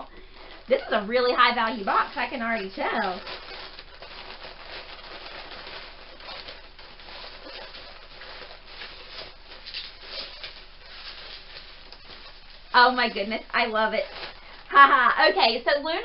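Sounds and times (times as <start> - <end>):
paper crinkling and rustling: 0.1 - 15.6.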